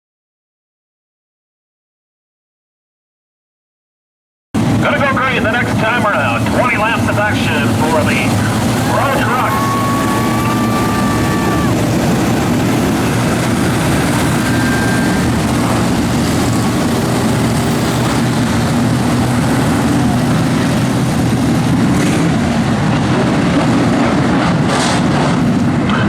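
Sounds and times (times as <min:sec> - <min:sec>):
race truck engines droning: 0:04.6 - 0:26.0.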